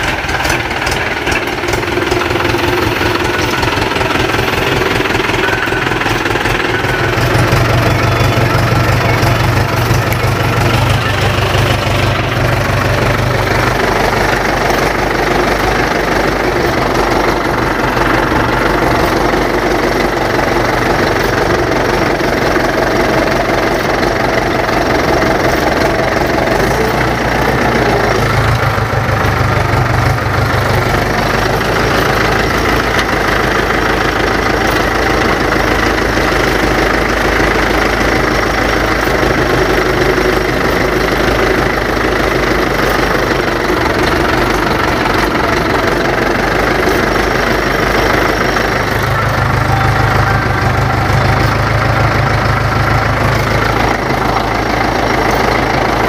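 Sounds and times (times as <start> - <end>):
deeper drone: 0.0 - 56.0
tractor diesel engine running: 0.0 - 56.0.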